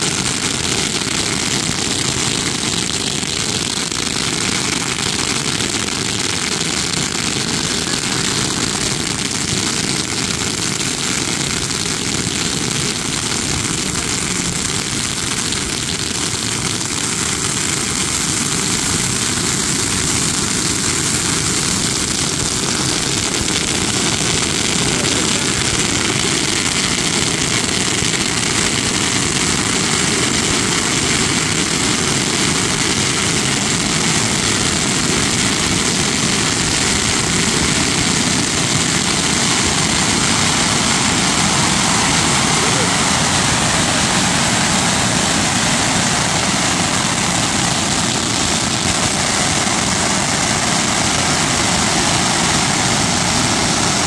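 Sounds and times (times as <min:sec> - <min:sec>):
fountain fireworks hissing: 0:00.0 - 0:54.0.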